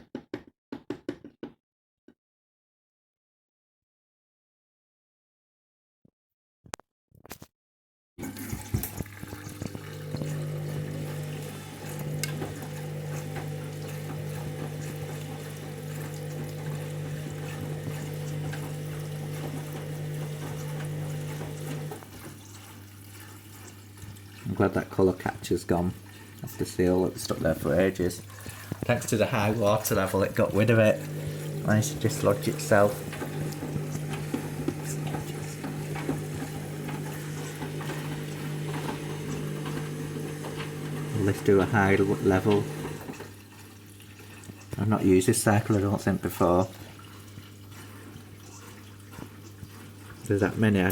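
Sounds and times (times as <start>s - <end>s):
washing machine hum: 8.2s - 50.9s
water rushing into washing machine: 8.2s - 50.9s.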